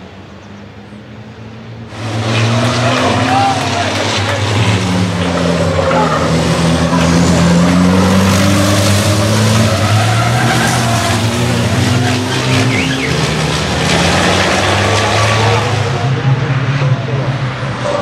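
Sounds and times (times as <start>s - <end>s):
truck diesel engines passing: 0.0s - 18.0s.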